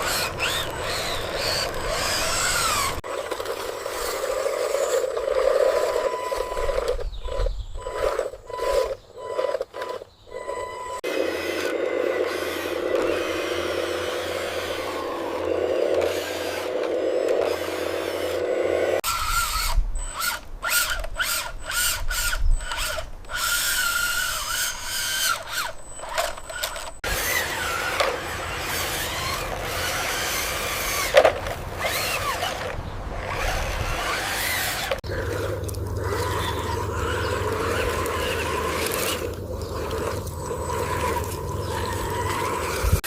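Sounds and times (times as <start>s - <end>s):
rattling grinding gearbox: 0.0s - 19.1s, 20.2s - 43.0s
small electric motors whining: 0.0s - 43.0s.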